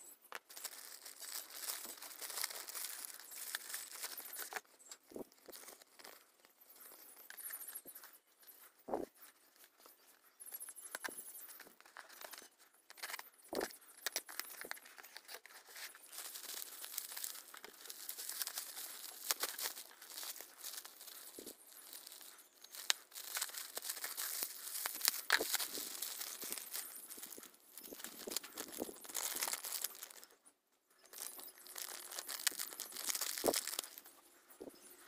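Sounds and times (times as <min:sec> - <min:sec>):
packaging crinkling and tearing: 0:00.3 - 0:06.2, 0:10.9 - 0:30.3, 0:31.1 - 0:34.1.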